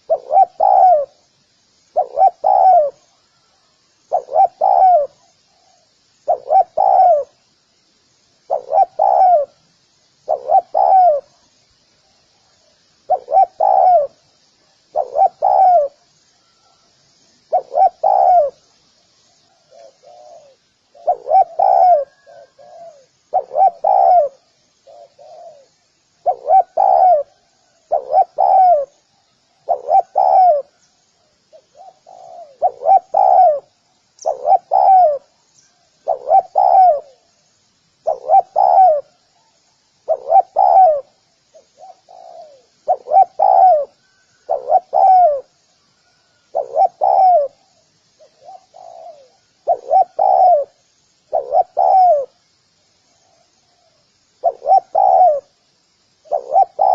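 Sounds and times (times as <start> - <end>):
dove cooing: 0.0 - 1.2, 1.9 - 3.4, 4.1 - 7.4, 8.5 - 9.6, 10.2 - 11.4, 13.1 - 14.2, 14.9 - 16.8, 17.5 - 18.6, 19.5 - 30.8, 31.5 - 35.4, 36.0 - 37.3, 38.0 - 52.4, 53.2 - 55.6, 56.2 - 56.9
softer coos of second dove: 0.0 - 1.2, 1.9 - 7.4, 8.5 - 9.6, 10.2 - 11.4, 13.1 - 14.2, 14.9 - 16.8, 17.5 - 18.6, 19.5 - 30.8, 31.5 - 35.4, 36.0 - 37.3, 38.0 - 52.4, 53.3 - 55.6, 56.2 - 56.9
small birds chirping: 1.8 - 56.9.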